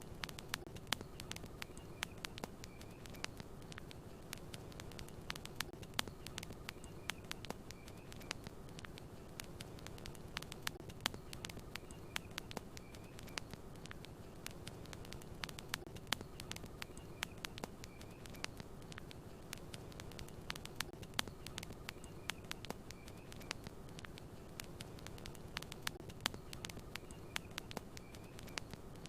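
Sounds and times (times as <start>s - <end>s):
campfire crackling and popping: 0.0s - 29.0s
faint high chirps: 0.0s - 29.0s.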